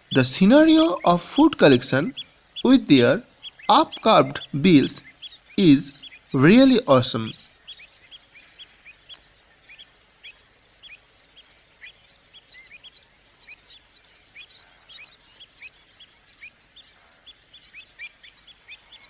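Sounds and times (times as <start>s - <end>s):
faint hiss: 0.0s - 19.0s
flock of birds calling: 0.0s - 19.0s.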